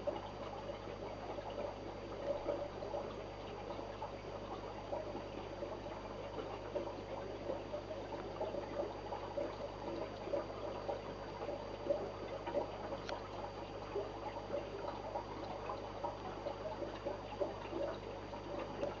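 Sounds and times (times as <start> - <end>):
water trickling and bubbling: 0.0 - 19.0.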